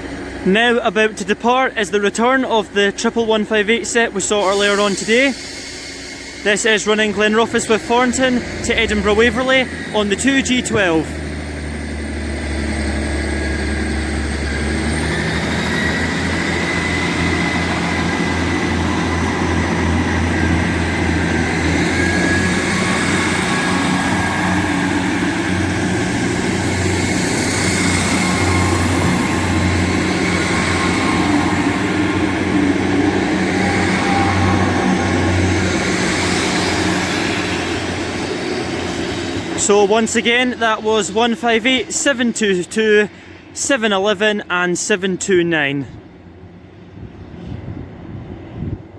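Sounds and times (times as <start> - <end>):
diesel engines rumbling: 0.0 - 48.9
train high whine: 0.0 - 48.9.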